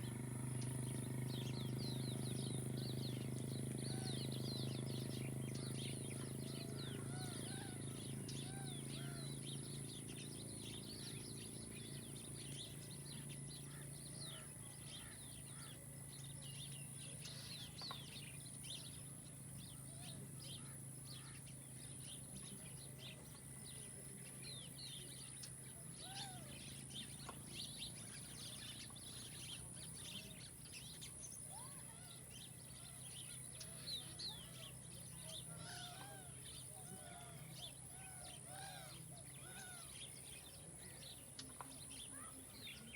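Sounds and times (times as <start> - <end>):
faint low hum: 0.0 - 42.9
small birds chirping: 0.0 - 42.9.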